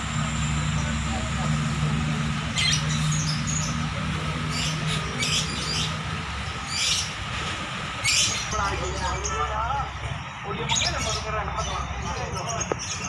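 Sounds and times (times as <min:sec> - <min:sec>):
caged birds chirping: 0:00.0 - 0:13.0
steady low hum: 0:00.0 - 0:13.0.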